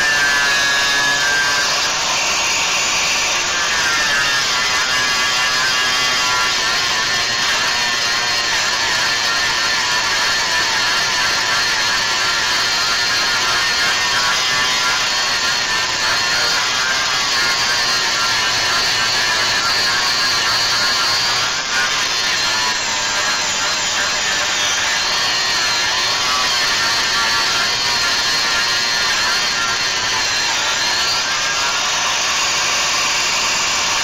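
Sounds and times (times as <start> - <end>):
electric grinder grinding metal: 0.0 - 34.0.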